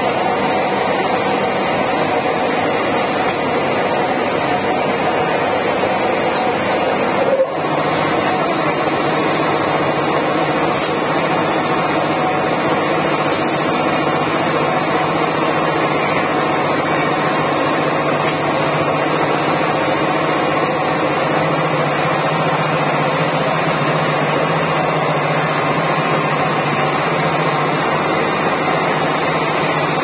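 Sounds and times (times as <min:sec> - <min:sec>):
loud machinery hum: 0:00.0 - 0:30.0.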